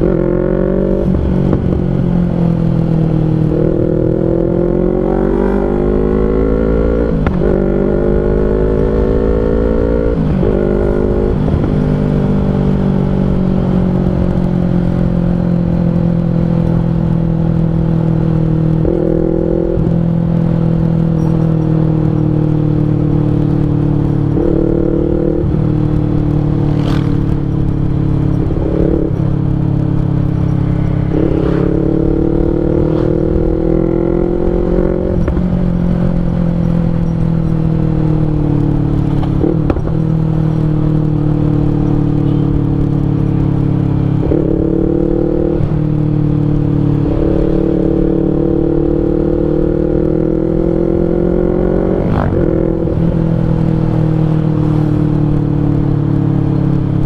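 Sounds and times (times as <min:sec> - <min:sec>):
motorcycle exhaust note: 0:00.0 - 0:57.0.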